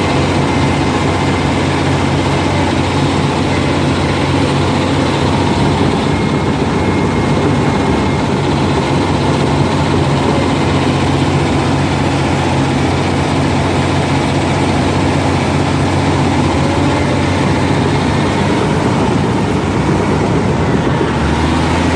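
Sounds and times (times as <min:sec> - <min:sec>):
diesel engine running steadily: 0:00.0 - 0:21.9.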